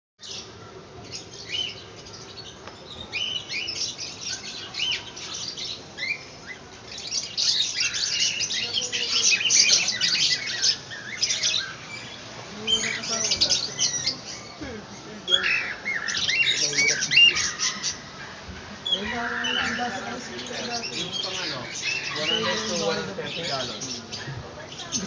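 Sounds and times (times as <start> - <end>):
caged birds chirping: 0.2 - 25.0.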